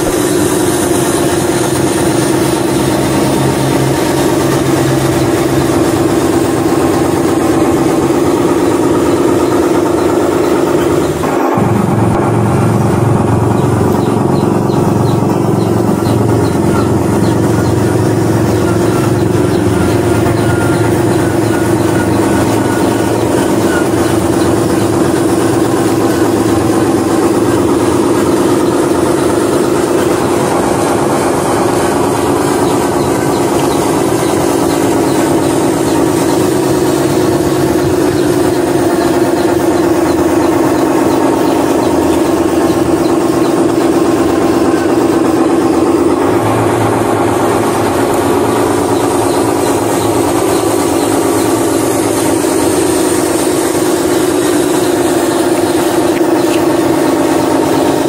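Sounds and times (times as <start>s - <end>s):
simulated diesel engine sound: 0.0s - 58.0s.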